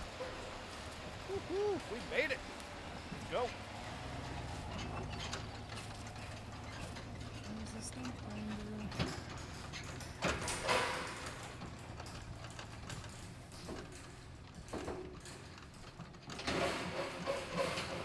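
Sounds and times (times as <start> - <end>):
mechanical clunks and rattles: 2.1 - 18.0.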